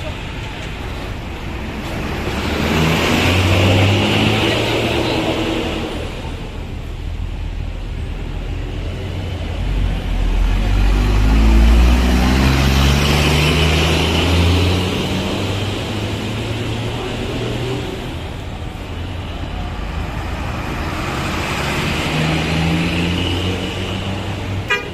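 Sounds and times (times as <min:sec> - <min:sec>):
bus engine drone: 0:00.0 - 0:24.9
road noise: 0:00.0 - 0:24.9.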